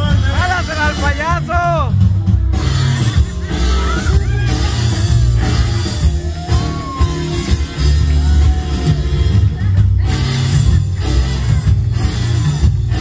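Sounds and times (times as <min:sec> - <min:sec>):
loud music with strong bass: 0:00.0 - 0:13.0.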